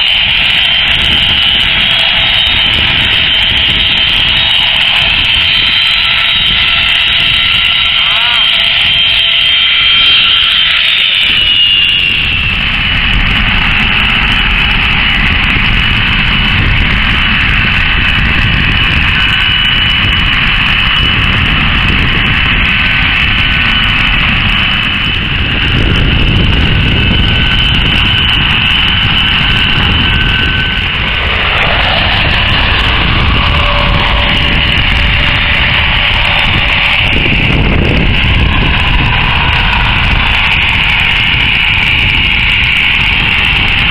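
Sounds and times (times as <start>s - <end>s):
jet engines running: 0.0s - 43.9s.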